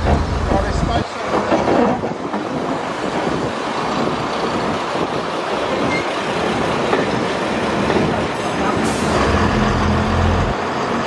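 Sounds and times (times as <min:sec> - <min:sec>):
train carriage rolling: 0:00.0 - 0:11.0.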